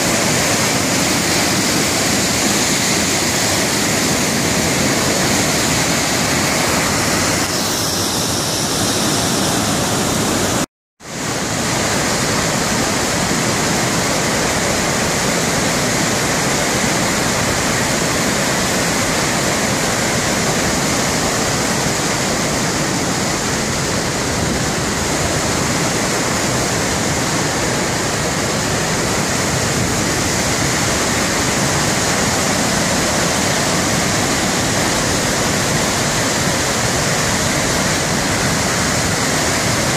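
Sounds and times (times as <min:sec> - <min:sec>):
waterfall and rapids rushing: 0:00.0 - 0:39.9.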